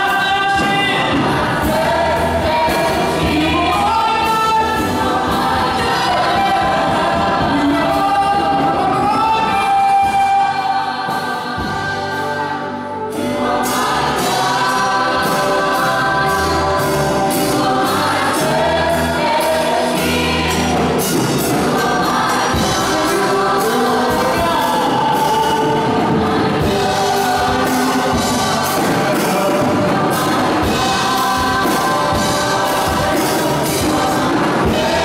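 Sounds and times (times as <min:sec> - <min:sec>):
bass and drum accompaniment: 0:00.0 - 0:35.0
women singing together: 0:00.0 - 0:35.0.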